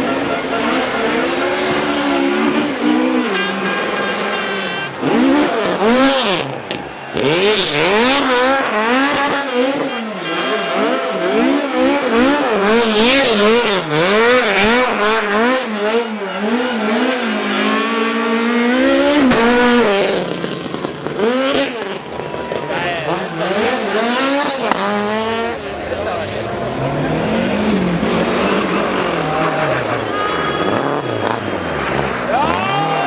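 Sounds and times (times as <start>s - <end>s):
car engine revving hard: 0.0s - 33.0s.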